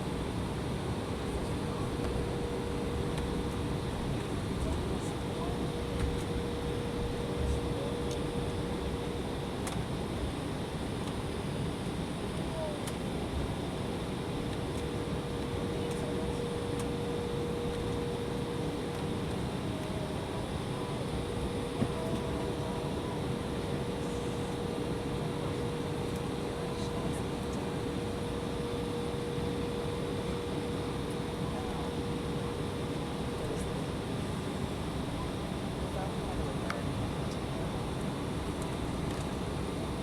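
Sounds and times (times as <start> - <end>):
airplane cabin engine noise: 0.0 - 40.0.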